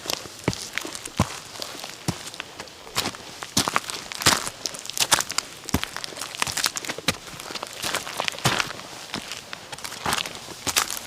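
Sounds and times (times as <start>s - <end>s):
footsteps on earthen steps: 0.0s - 11.0s
gritty scuffs: 0.0s - 11.0s.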